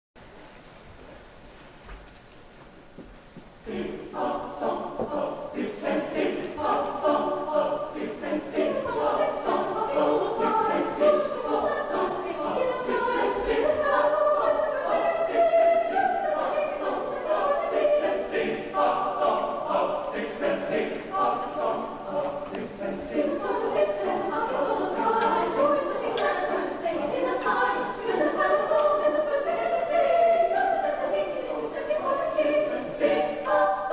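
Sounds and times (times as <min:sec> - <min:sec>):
mixed-voice choir singing: 0:03.6 - 0:33.9.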